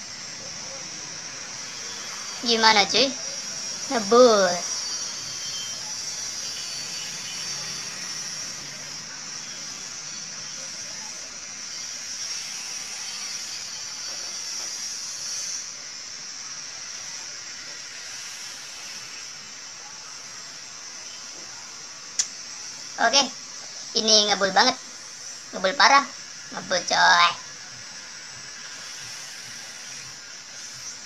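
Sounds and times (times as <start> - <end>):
vaporizer coil hissing: 0.0 - 31.0.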